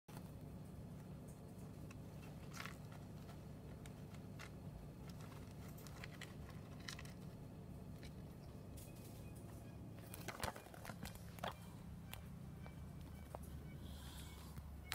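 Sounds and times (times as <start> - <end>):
low steady hum: 0.1 - 14.9.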